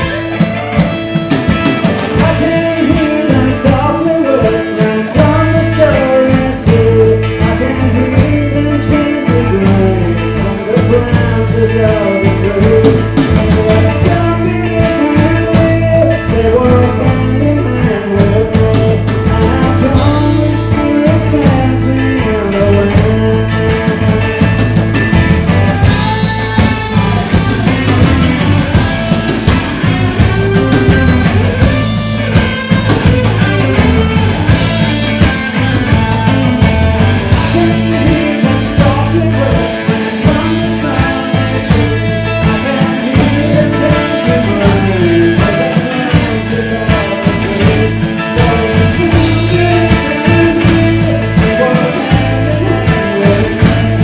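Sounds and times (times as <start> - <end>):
bass guitar: 0.0 - 54.0
drum kit: 0.0 - 54.0
electric guitars: 0.0 - 54.0
person singing lead vocal: 0.0 - 54.0.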